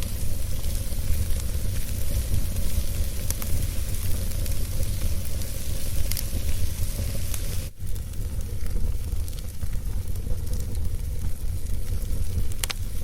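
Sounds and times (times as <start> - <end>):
fire crackles: 0.0 - 13.0
fire rumble and hiss: 0.0 - 13.0.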